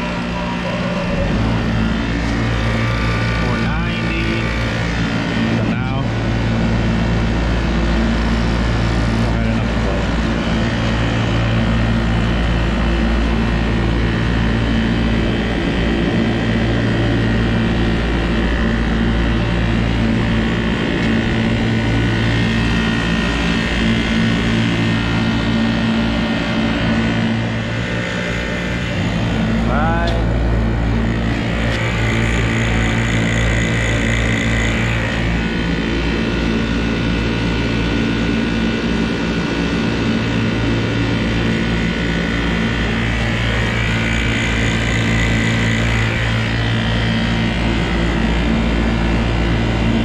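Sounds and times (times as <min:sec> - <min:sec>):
vacuum pump motor hum: 0:00.0 - 0:50.0.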